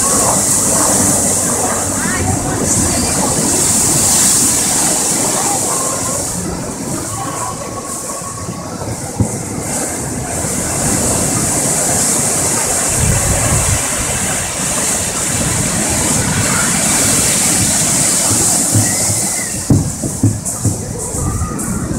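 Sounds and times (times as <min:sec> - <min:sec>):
rough sea surging against wall: 0:00.0 - 0:21.9.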